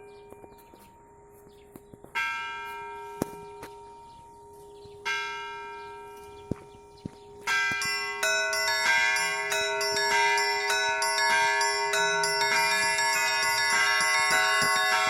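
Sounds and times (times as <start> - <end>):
low hum of large bell: 0.0 - 15.0
small bells pealing: 2.1 - 15.0
church bell strokes: 2.2 - 15.0.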